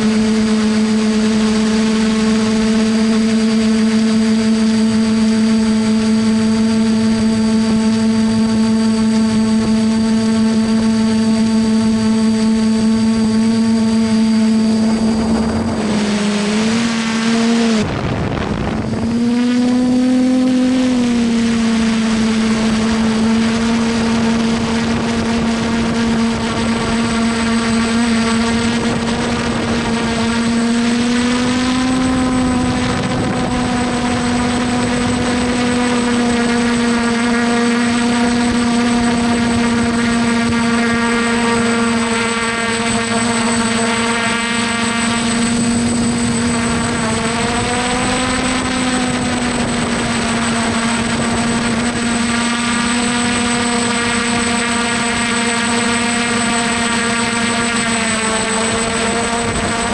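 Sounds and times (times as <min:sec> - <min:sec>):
drone motors and propellers humming: 0:00.0 - 0:59.9.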